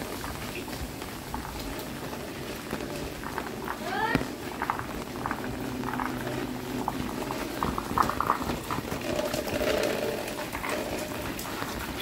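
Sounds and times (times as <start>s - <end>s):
rain falling: 0.0s - 12.0s
water running: 0.0s - 12.0s.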